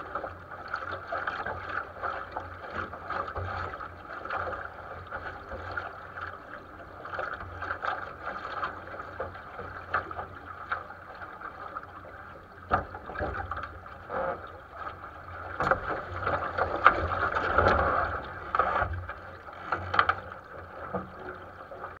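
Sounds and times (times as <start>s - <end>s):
water splashing against a hull: 0.0s - 22.0s.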